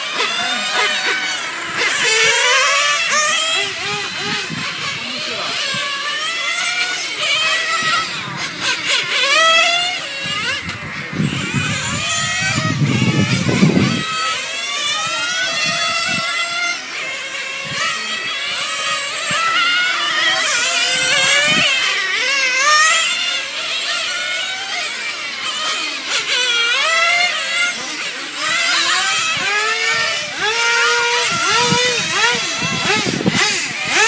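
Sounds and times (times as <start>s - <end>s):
model car engines revving: 0.0s - 34.0s.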